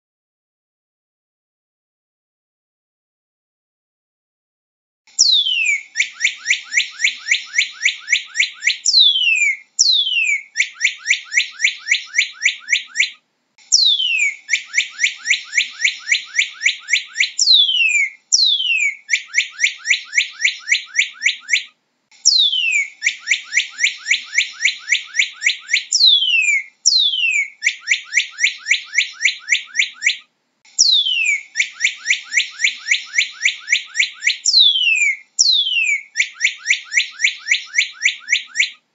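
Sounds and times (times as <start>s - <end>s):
bird singing clear whistles: 5.2s - 38.8s.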